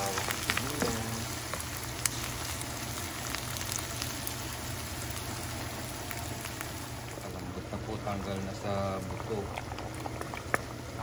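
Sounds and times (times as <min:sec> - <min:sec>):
garlic and onions sizzling in oil: 0:00.0 - 0:10.9.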